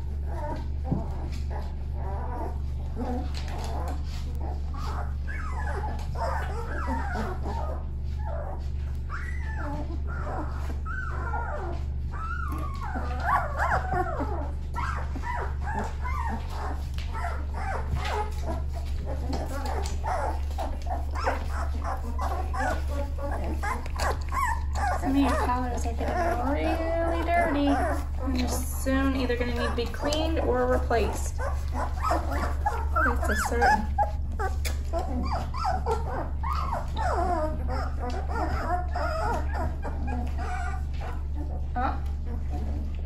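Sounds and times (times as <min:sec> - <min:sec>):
puppies whimpering and crying: 0:00.0 - 0:43.0
steady low hum: 0:00.0 - 0:43.0.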